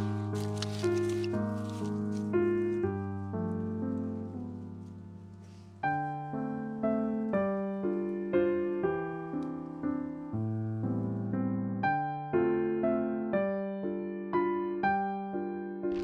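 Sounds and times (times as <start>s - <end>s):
electric piano music: 0.0s - 16.0s.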